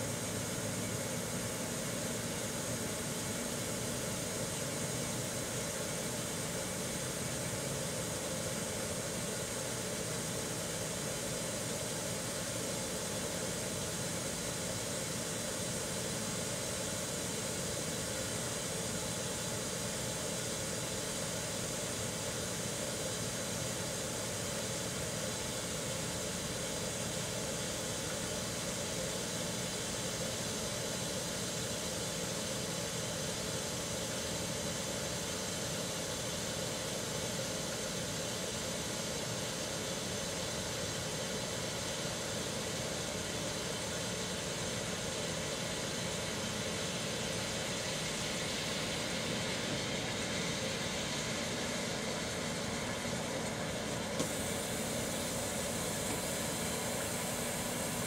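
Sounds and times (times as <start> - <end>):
microwave oven humming: 0.0 - 58.0
steam hissing: 0.0 - 58.0.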